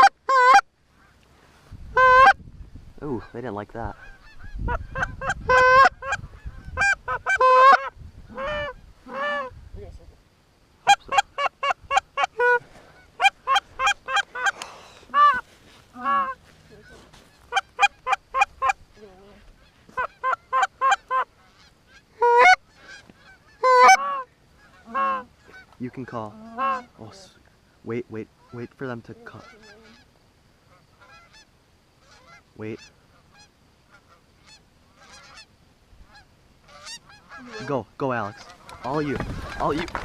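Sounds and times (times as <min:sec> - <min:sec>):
goose honks and clucks: 0:00.0 - 0:01.2, 0:01.9 - 0:02.4, 0:03.2 - 0:09.6, 0:10.8 - 0:18.8, 0:19.6 - 0:27.2, 0:28.4 - 0:30.1, 0:30.7 - 0:40.0.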